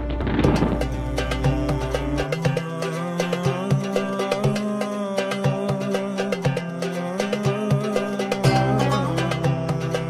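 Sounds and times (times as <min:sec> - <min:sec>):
instrumental music with quick beat: 0:00.0 - 0:10.0.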